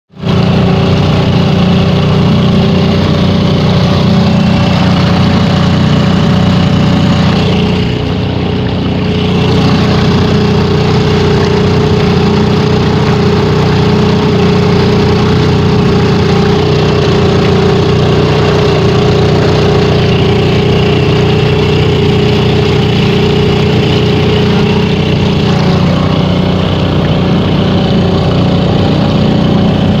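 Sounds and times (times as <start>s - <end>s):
motorboat engine running: 0.1s - 30.0s.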